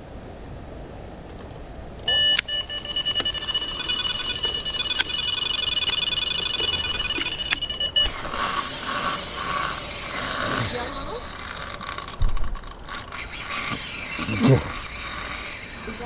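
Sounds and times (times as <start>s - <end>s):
high-pitched alarm beeping: 2.1s - 16.0s.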